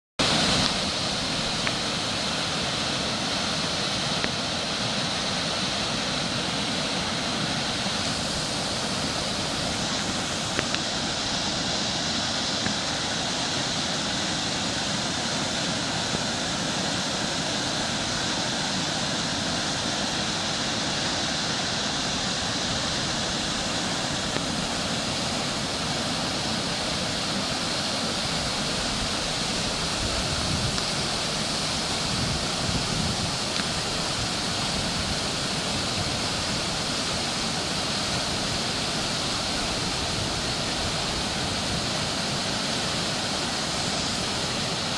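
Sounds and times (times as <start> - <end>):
river water rushing: 0.2 - 44.9.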